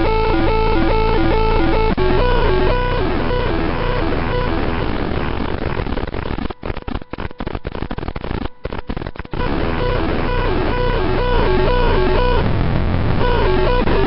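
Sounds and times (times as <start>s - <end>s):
harsh buzzing distorted keyboard: 0.0s - 14.0s.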